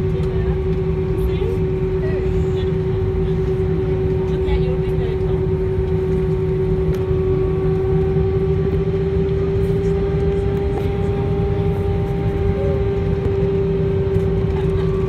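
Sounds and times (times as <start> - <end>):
airplane cabin engine hum: 0.0 - 15.0.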